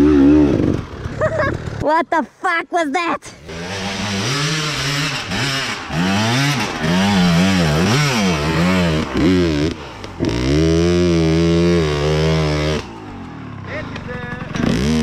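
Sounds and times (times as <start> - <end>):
dirt bike engine revving: 0.0 - 1.9, 3.3 - 15.0.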